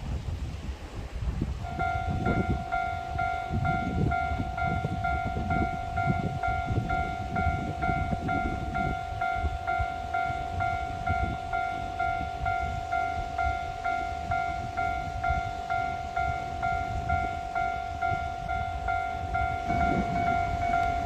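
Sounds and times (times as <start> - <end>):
low rumbling noise: 0.0 - 21.0
level crossing electronic bell: 1.7 - 21.0.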